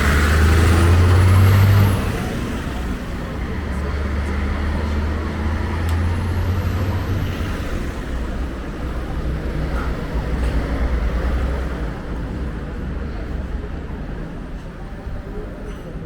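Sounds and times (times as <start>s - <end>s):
road noise: 0.0s - 16.0s
vehicle engine rumbling: 0.0s - 16.0s.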